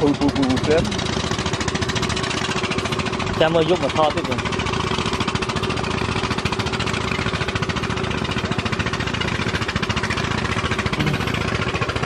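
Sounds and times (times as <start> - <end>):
small engine chugging: 0.0 - 12.0.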